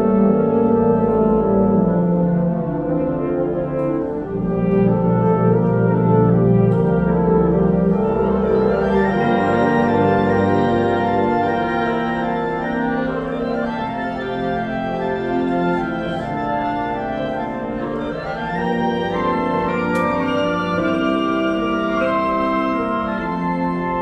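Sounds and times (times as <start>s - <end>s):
wind ensemble playing sustained chords: 0.0s - 24.0s.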